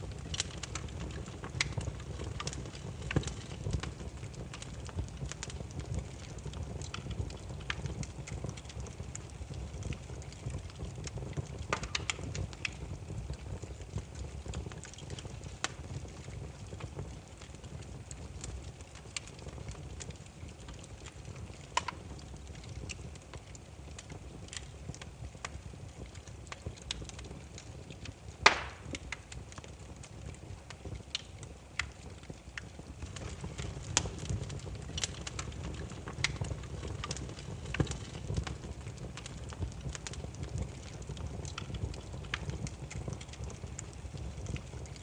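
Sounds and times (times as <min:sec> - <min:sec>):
firewood crackling and popping: 0:00.0 - 0:45.0
low rumble of flames: 0:00.0 - 0:45.0.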